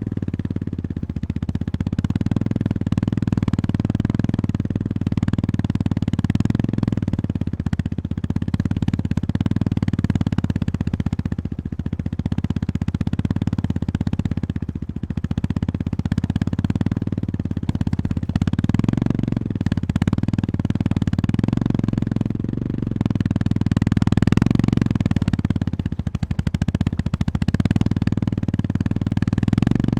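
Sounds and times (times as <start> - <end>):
motorcycle engine thumping: 0.0 - 29.9.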